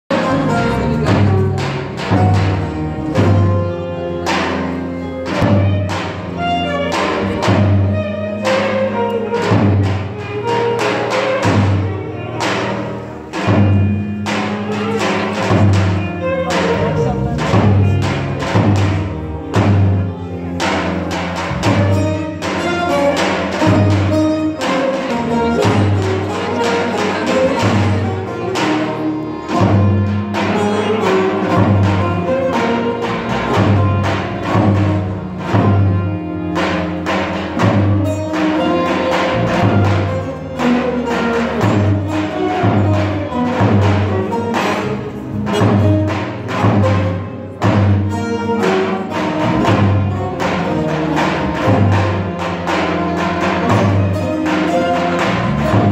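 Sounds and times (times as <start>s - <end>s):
low beat: 0.1s - 55.9s
plucked lutes: 0.1s - 55.9s.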